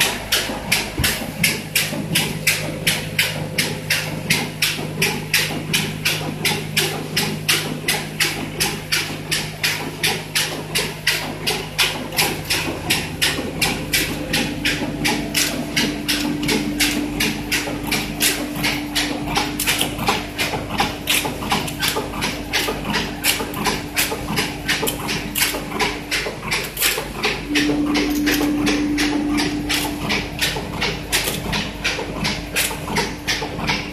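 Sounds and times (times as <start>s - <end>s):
machine hum: 0.0s - 33.9s
packing machine clacking: 0.0s - 33.9s.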